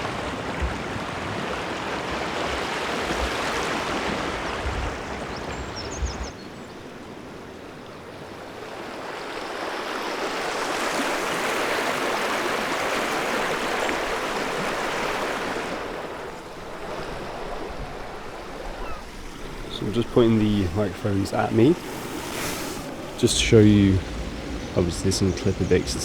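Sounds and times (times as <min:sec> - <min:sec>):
stream water babbling: 0:00.0 - 0:26.0.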